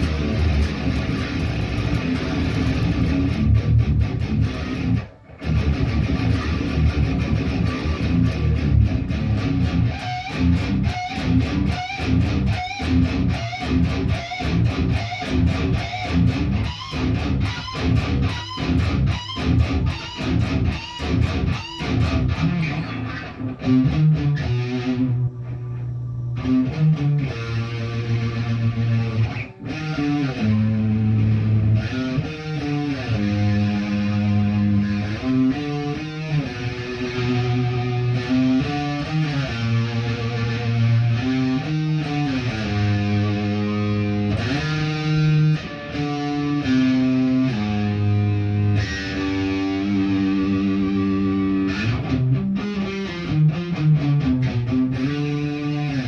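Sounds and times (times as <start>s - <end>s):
guitar chords strummed: 0.0s - 56.0s.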